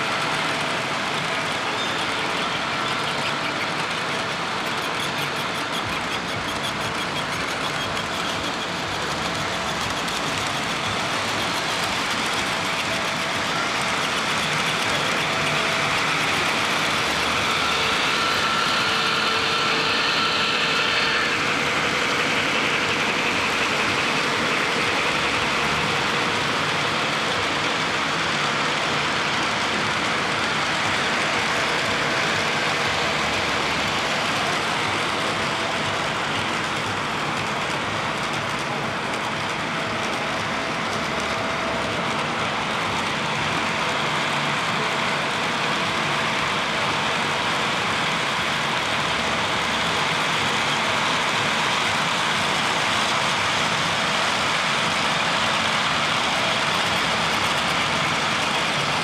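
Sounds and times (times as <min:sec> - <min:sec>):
model train wheels clattering on rails: 0:00.0 - 0:59.0.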